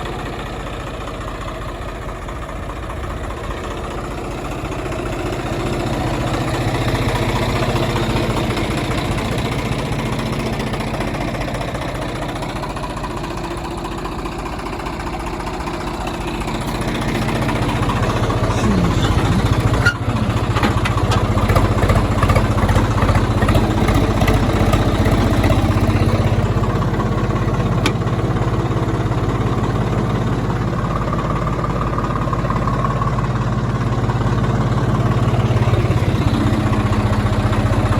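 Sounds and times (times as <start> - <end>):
diesel tractor engine running: 0.0 - 37.9.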